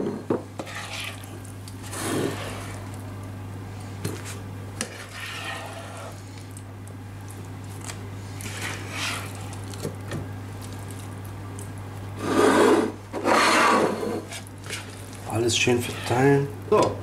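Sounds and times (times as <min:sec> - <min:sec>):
steady low hum: 0:00.0 - 0:17.0
wet food squelching and scraping: 0:00.6 - 0:16.6.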